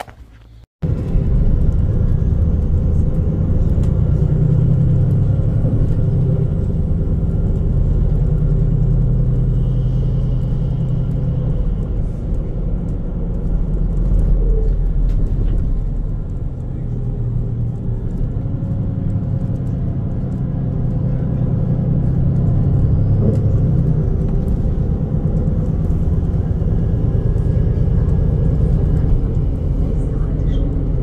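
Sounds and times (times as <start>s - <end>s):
motor vehicle engine rumble: 0.0s - 31.0s.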